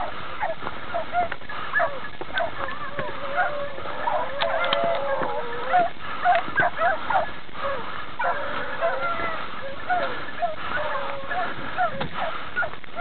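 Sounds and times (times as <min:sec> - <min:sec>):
hounds baying: 0:00.0 - 0:13.0
hounds howling: 0:00.0 - 0:13.0.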